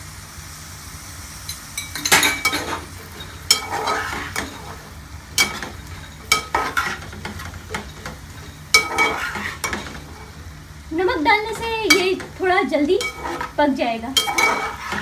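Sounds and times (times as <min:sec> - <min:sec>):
faint frying sizzle: 0:00.0 - 0:15.0
spoon scraping pan: 0:01.5 - 0:15.0.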